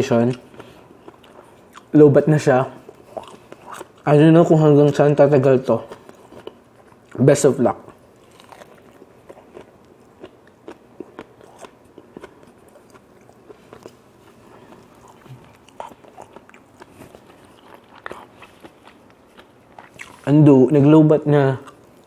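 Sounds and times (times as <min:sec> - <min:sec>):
person chewing crunchy food: 0:00.1 - 0:02.0, 0:02.8 - 0:20.3, 0:21.4 - 0:22.0.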